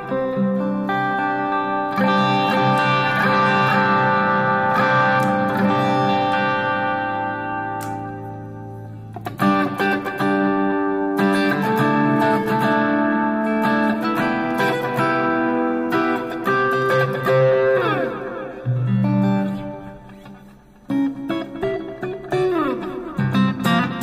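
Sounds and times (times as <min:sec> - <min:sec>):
clean electric guitar playing: 0:00.0 - 0:24.0.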